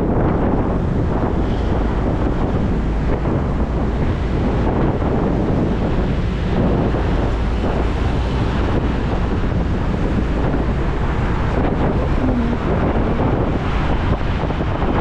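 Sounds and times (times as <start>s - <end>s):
road noise: 0.0s - 15.0s
wind rushing over microphone: 0.0s - 15.0s.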